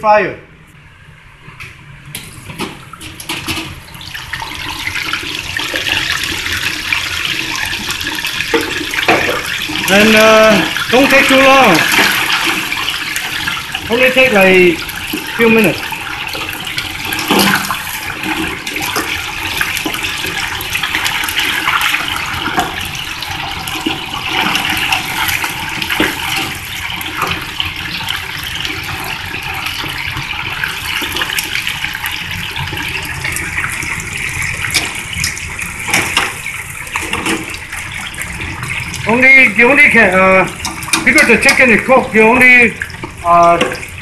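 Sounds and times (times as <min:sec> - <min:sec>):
deep fryer oil bubbling: 0:01.0 - 0:44.0.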